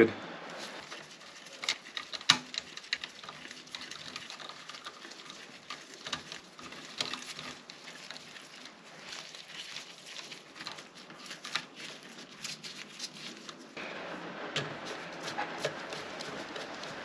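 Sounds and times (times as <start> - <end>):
rain pattering: 0.5 - 17.0.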